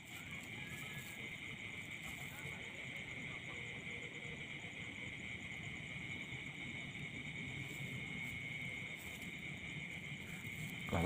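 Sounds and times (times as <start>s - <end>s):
crickets pulsing trill: 0.0s - 11.0s
insects steady high buzz: 0.0s - 11.0s.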